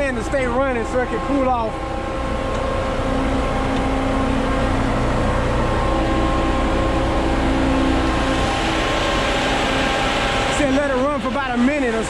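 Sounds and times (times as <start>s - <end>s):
fan droning hum: 0.0s - 12.0s
grain elevator running: 0.0s - 12.0s.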